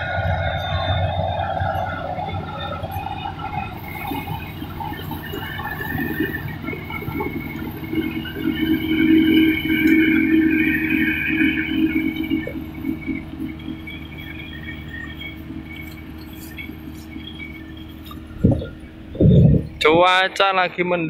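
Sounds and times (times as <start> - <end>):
combine harvester engine drone: 0.0 - 21.0
machinery whining tone: 0.0 - 21.0.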